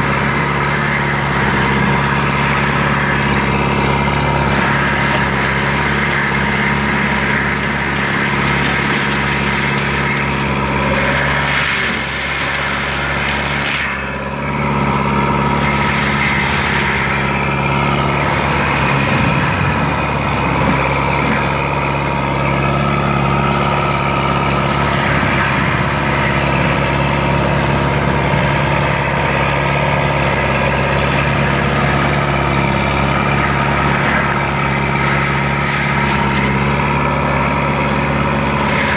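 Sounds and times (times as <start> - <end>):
forestry mulcher running: 0.0 - 38.9.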